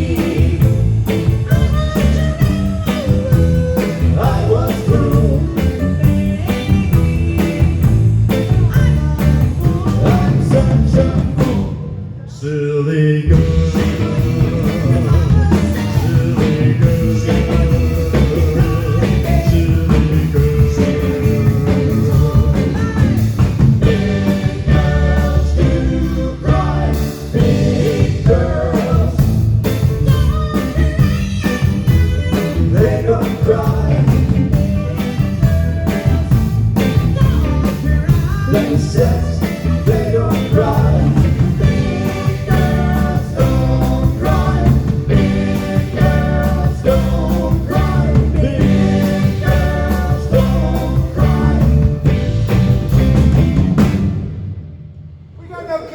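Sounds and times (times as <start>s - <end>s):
bluesy rock band with electric guitar: 0.0s - 11.9s, 13.3s - 54.4s.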